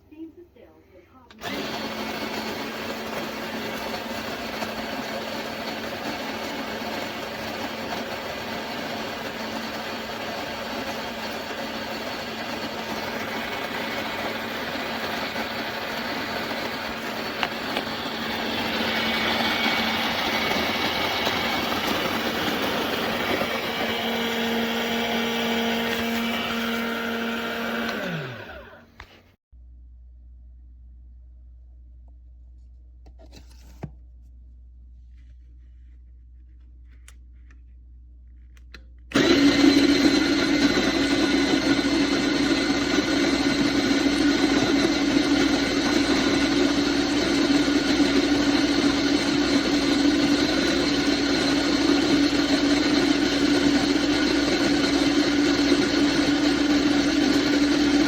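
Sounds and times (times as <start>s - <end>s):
electric coffee grinder running: 1.4s - 29.2s, 39.1s - 58.0s.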